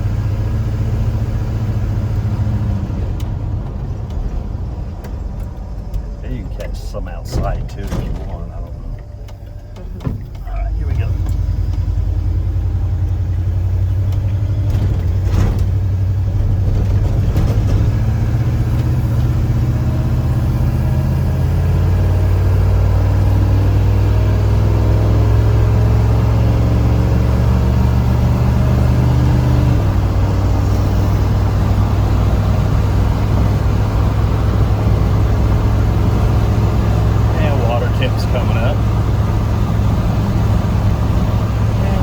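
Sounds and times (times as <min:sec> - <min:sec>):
pickup truck engine pulling: 0:00.0 - 0:42.0.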